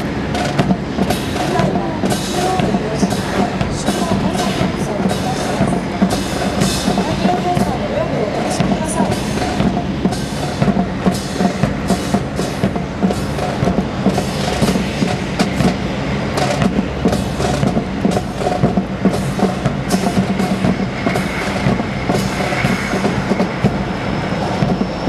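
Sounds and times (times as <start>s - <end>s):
steady low hum: 0.0s - 25.0s
boots marching on concrete: 0.4s - 15.8s, 16.4s - 23.8s.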